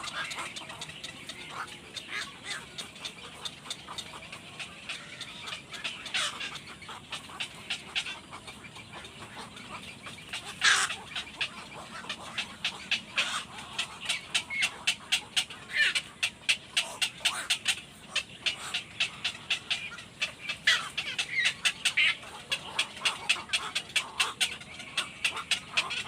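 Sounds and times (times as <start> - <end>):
baby birds cheeping: 0.0 - 26.0
falling bird calls: 0.0 - 26.0.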